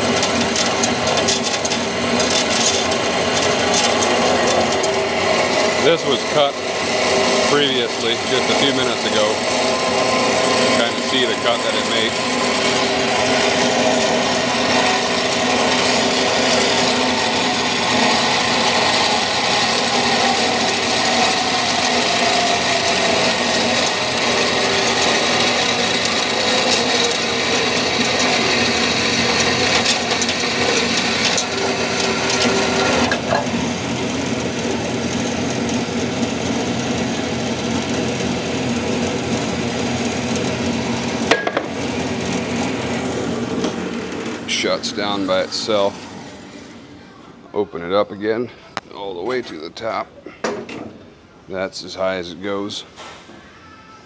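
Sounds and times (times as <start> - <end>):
band saw blade cutting: 0.0 - 46.8
saw motor hum: 0.0 - 47.2.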